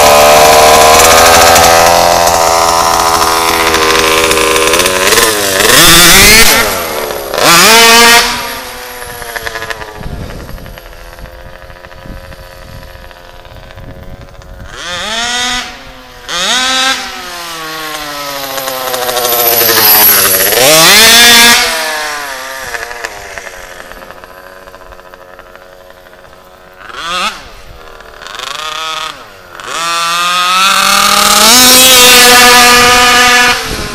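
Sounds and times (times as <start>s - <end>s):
rc car two-stroke engine revving: 0.0s - 33.9s.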